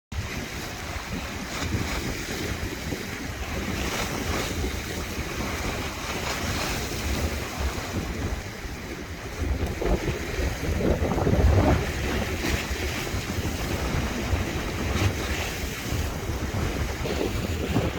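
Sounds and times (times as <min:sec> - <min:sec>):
sea waves breaking: 0:00.1 - 0:17.9
wind buffeting microphone: 0:00.1 - 0:17.9.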